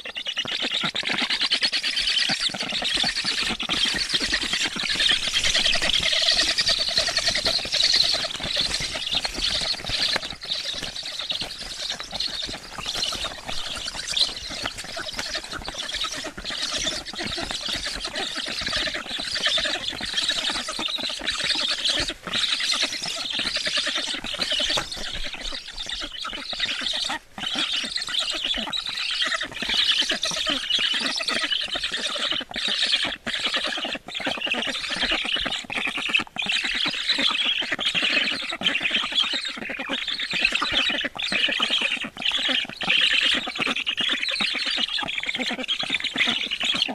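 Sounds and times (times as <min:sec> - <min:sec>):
bird chicks begging calls: 0:00.0 - 0:46.9.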